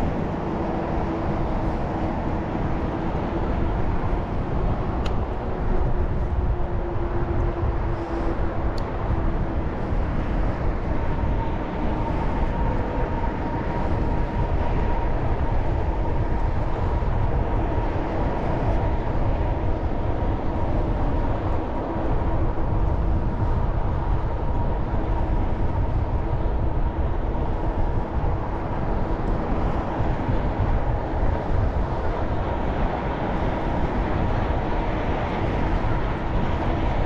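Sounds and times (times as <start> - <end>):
bicycle road noise: 0.0 - 37.0
wind rush on microphone: 0.0 - 37.0.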